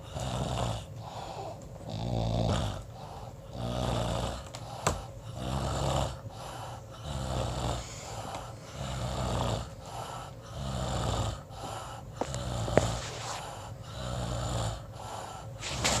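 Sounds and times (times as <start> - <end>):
person snoring: 0.0 - 16.0.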